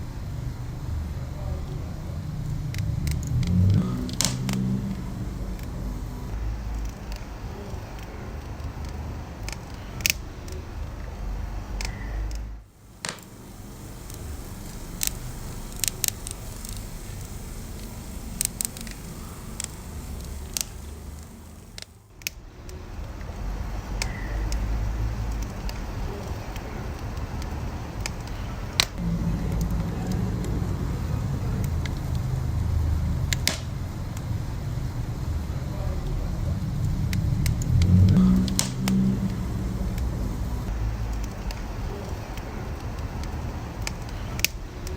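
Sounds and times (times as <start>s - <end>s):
burning wood crackling: 0.0s - 44.9s
fire flame rumble: 0.0s - 44.9s.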